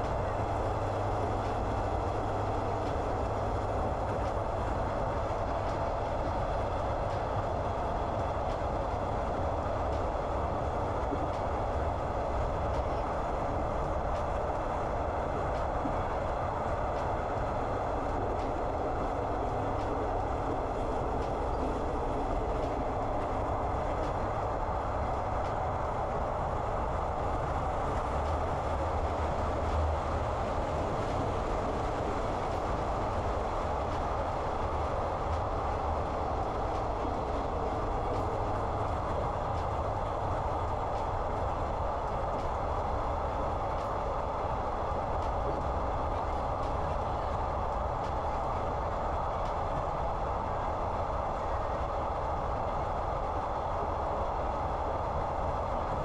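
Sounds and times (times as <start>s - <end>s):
train rumble and wheel-on-rail noise: 0.0s - 56.0s.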